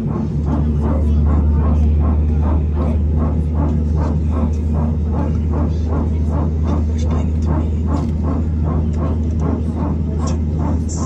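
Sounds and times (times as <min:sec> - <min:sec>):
low hum of aircraft engines: 0:00.0 - 0:11.0.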